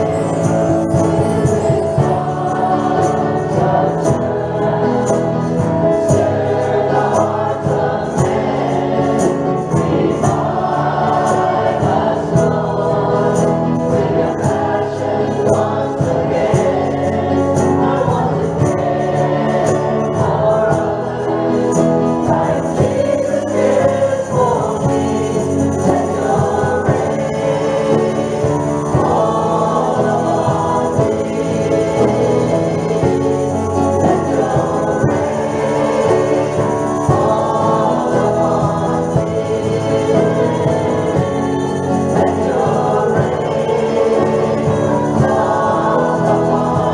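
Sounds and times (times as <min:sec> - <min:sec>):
choir singing: 0:00.0 - 0:46.9
instrumental accompaniment: 0:00.0 - 0:46.9.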